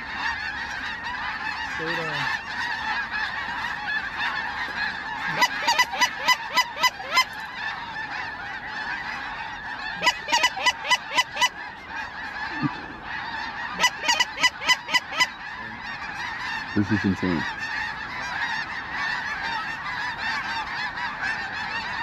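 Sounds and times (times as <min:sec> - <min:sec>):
close goose honks: 0:00.0 - 0:22.0
flock of geese honking: 0:00.0 - 0:22.0.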